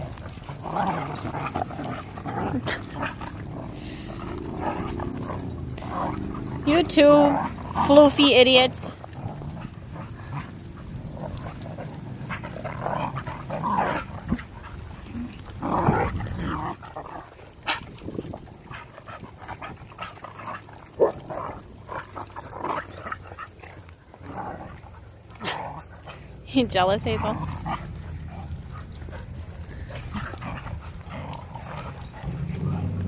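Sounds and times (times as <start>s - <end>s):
dog growling: 0.0s - 33.0s.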